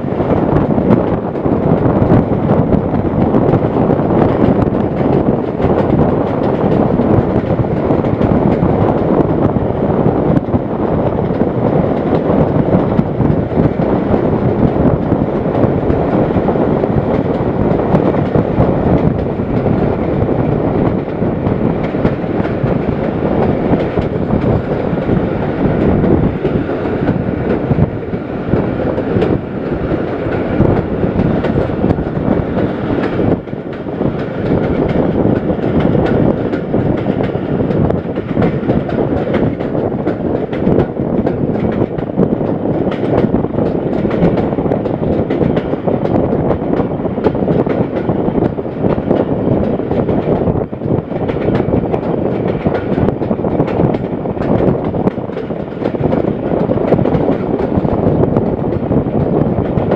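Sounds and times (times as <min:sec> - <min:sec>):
rumble of wheels on rails: 0:00.0 - 0:59.9
rushing air: 0:00.0 - 0:59.9.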